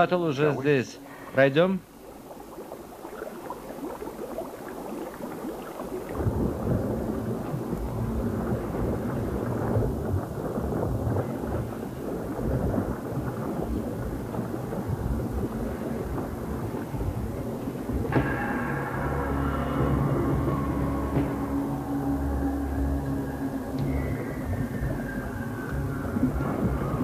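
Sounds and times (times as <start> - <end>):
water churning and bubbling in tube: 0.0 - 27.0.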